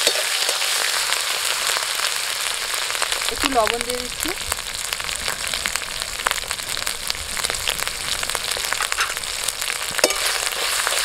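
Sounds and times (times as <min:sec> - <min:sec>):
paste frying in hot oil: 0:00.0 - 0:11.0.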